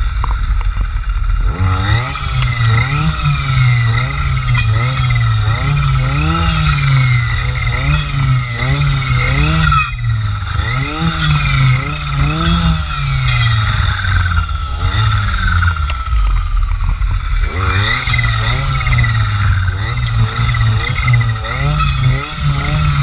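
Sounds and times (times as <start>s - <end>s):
clearing saw engine revving: 1.4s - 23.0s.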